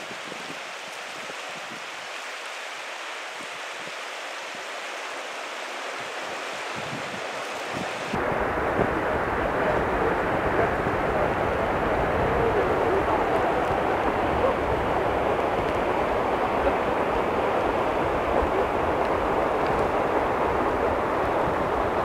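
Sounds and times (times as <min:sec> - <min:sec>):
wind rumble on microphone: 0:00.0 - 0:02.3, 0:06.0 - 0:22.0
river rushing over rocks: 0:00.0 - 0:22.0.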